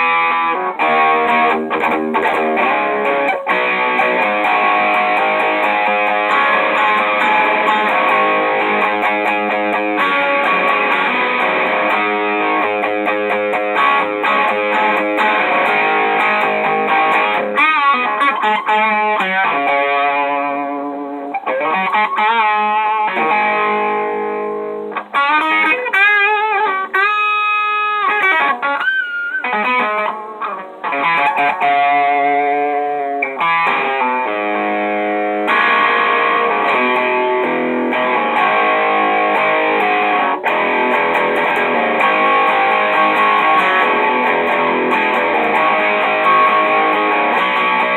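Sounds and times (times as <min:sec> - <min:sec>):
overdriven electric guitar: 0:00.0 - 0:47.9.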